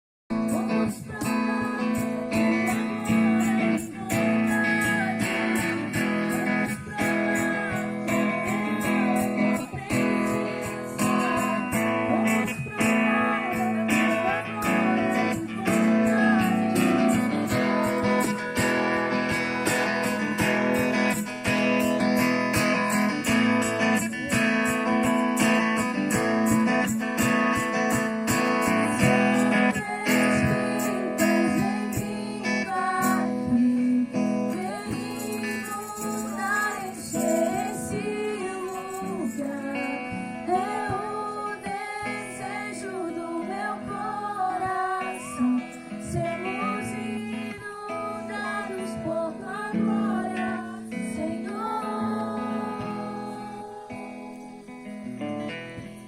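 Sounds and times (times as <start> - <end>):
person singing: 0.3 - 54.8
strummed guitar: 0.3 - 56.0.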